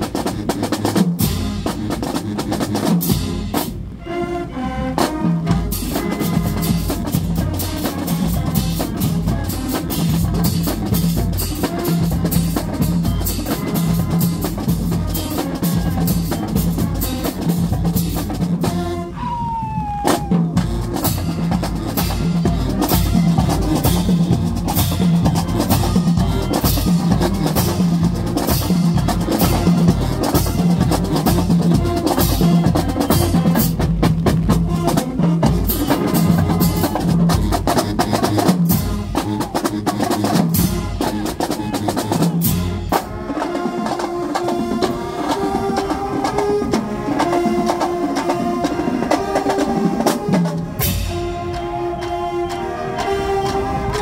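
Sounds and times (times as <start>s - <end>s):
drumline playing cadence: 0.0s - 54.0s.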